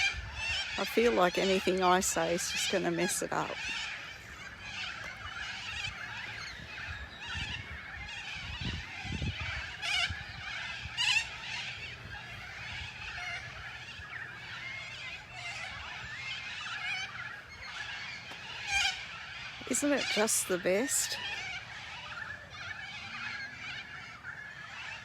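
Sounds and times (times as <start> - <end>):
insect-like hum: 0.0 - 25.0
short bird calls: 0.0 - 25.0.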